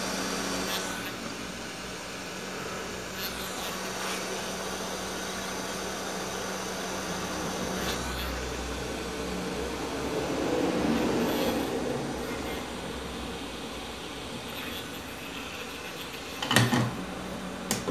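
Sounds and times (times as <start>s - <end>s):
hot-air station blowing: 0.0s - 17.9s.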